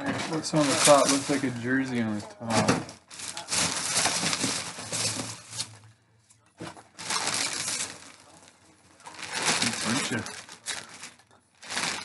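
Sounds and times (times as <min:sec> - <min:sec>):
plastic crinkling: 0:00.2 - 0:05.9, 0:06.8 - 0:12.0
packing peanuts rustling and squeaking: 0:00.3 - 0:05.8, 0:07.0 - 0:12.0.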